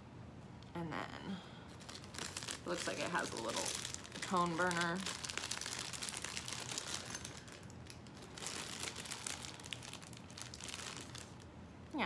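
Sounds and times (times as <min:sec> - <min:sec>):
crinkly packaging unwrapped: 0:01.7 - 0:11.5.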